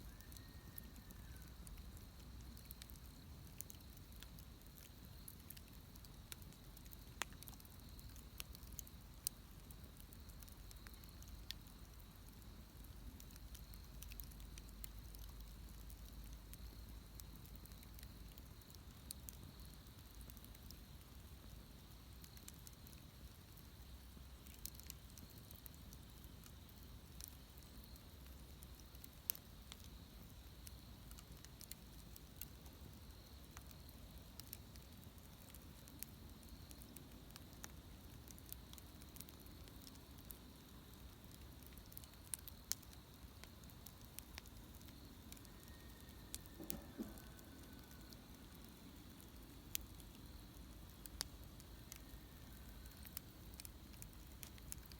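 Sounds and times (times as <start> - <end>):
low hiss: 0.0 - 54.9
bonfire crackling and popping: 0.1 - 54.9.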